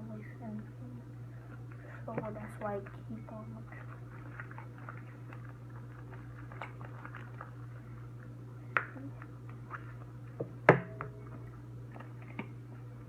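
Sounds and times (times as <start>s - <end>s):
steady low hum: 0.0s - 13.0s
slime squelching: 1.4s - 13.0s.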